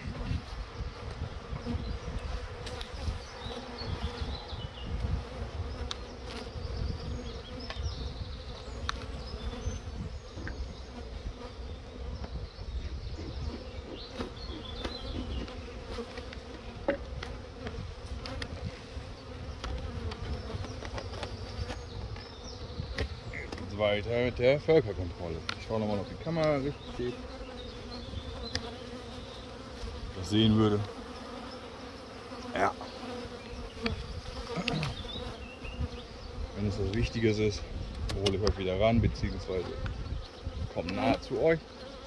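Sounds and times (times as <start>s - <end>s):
honeybees buzzing: 0.0s - 42.0s.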